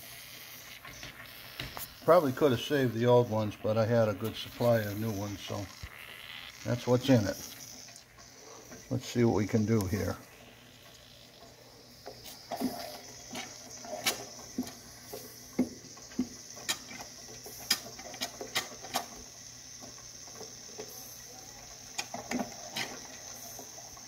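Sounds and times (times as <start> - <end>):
steam engine spits and clicks: 0.0 - 5.7, 6.7 - 10.4, 11.4 - 24.0
steady high hiss: 0.0 - 24.0.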